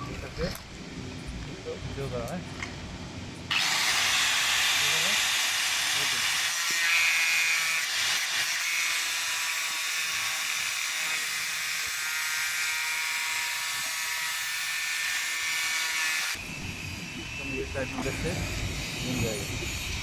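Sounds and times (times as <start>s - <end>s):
high-speed power tool whine: 3.5s - 20.0s.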